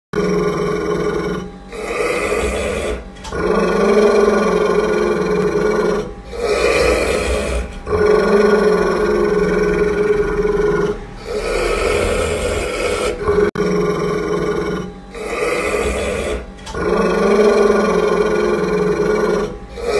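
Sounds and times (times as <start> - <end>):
dog growling deeply: 0.2 - 19.9.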